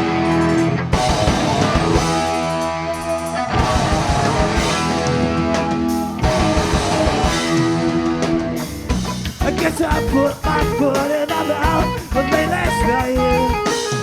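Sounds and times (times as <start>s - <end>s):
distorted electric guitar chords: 0.0s - 14.0s
live rock band playing: 0.0s - 14.0s.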